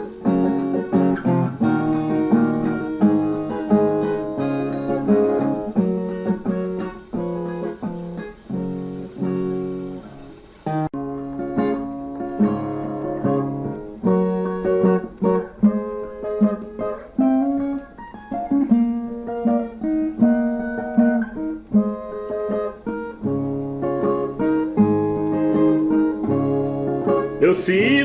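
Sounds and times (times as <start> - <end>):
plucked guitar melody: 0.0 - 28.0.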